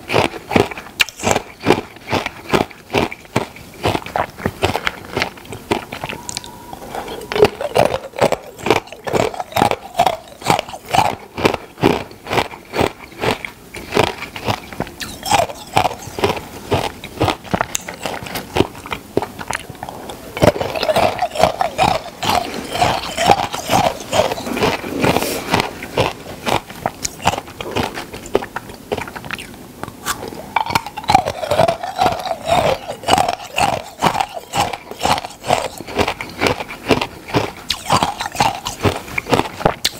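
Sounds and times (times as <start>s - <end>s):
crunchy food chewing: 0.0s - 39.9s
wet mouth sounds: 0.0s - 39.9s.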